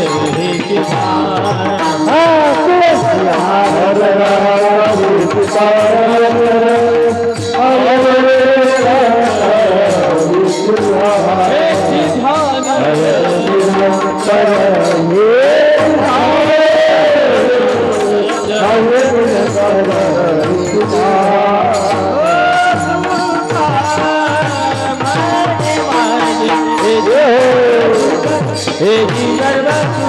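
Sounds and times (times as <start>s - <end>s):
drum: 0.0s - 30.0s
jingling percussion: 0.0s - 30.0s
person singing long notes: 0.0s - 30.0s.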